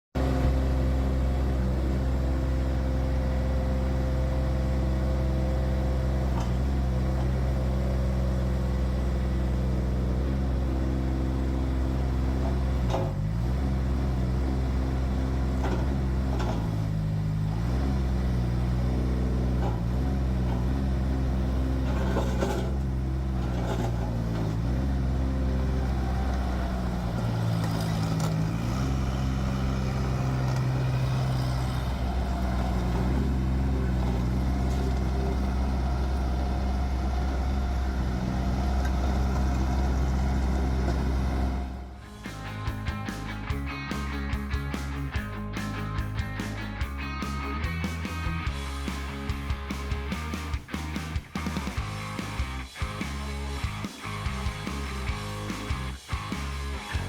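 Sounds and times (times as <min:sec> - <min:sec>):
diesel engine at high revs: 0:00.0 - 0:57.0.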